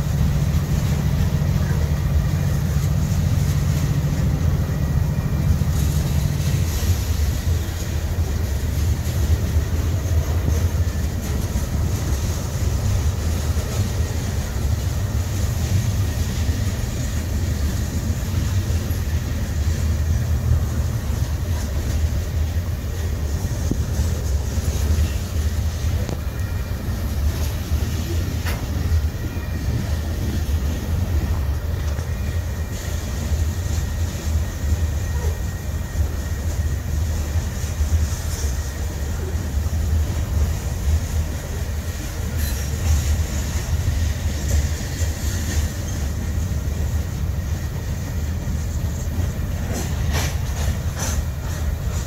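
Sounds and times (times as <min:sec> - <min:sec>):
diesel locomotive rumble: 0:00.0 - 0:52.0.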